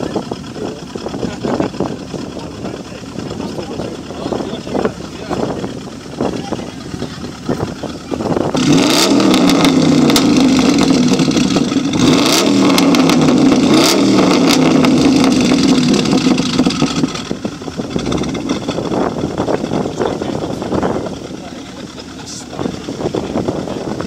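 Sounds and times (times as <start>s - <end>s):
car engine revving: 0.0s - 24.0s
exhaust cracks: 0.0s - 24.0s.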